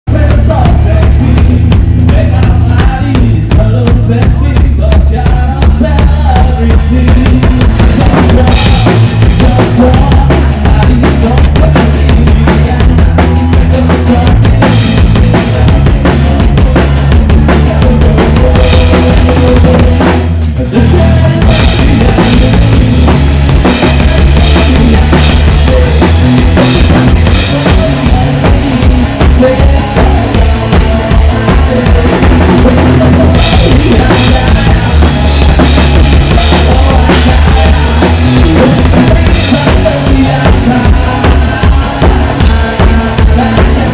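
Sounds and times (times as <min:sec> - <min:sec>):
drum kit: 0:00.0 - 0:43.9
live rock band playing: 0:00.1 - 0:43.9.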